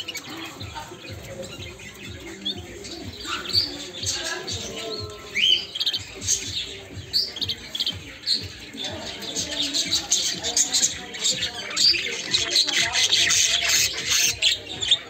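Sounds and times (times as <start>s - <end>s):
canaries chirping and calling: 0.0s - 15.0s.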